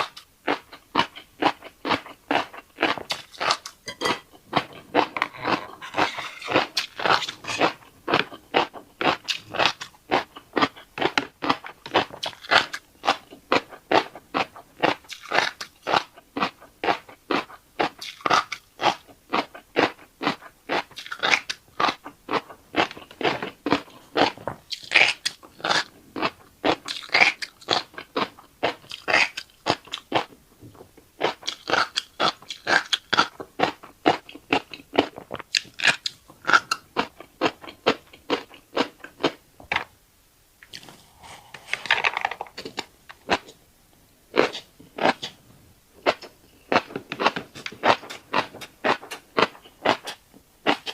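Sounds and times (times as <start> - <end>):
crunching and chewing: 0.0 - 39.9, 44.3 - 45.4, 46.0 - 50.9.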